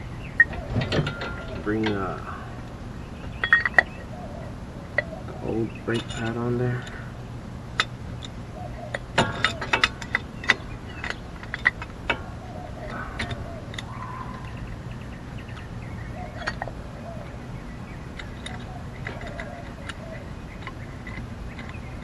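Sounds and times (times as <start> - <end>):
metal brake parts clinking: 0.4 - 4.2, 4.9 - 7.1, 7.7 - 14.6, 15.5 - 17.2, 18.1 - 22.0.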